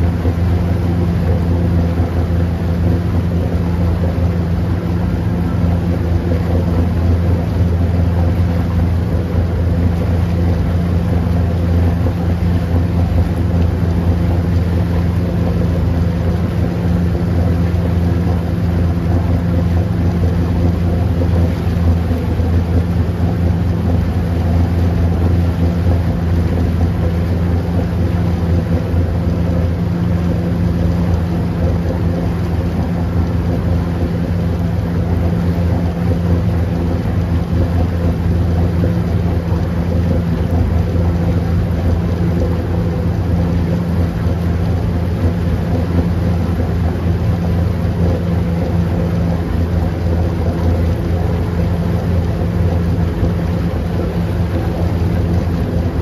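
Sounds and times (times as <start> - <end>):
motorboat engine droning: 0.0 - 56.0
propeller wash splashing: 0.0 - 56.0.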